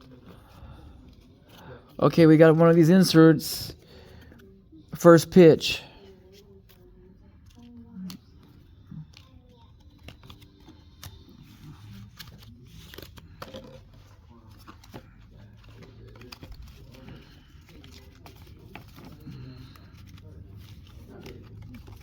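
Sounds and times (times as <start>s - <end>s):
cards and wrapper rustling: 0.0s - 22.0s.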